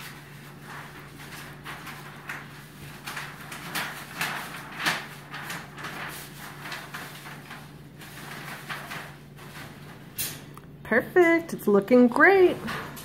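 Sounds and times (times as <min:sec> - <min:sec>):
rustling and sliding scrapes: 0:00.0 - 0:10.4
steady low hum: 0:00.0 - 0:13.0.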